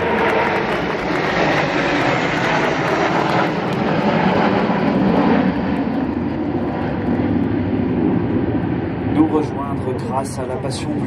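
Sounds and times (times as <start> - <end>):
jet planes flying past: 0.0 - 11.0.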